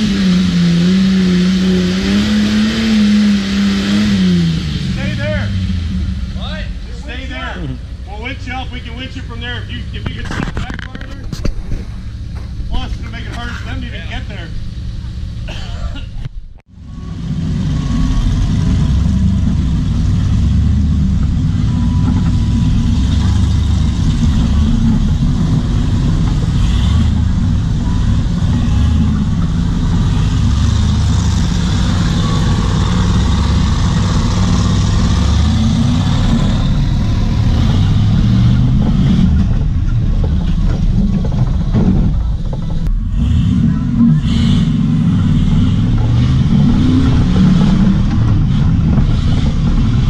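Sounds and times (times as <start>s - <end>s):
off-road vehicle engine: 0.0s - 50.0s.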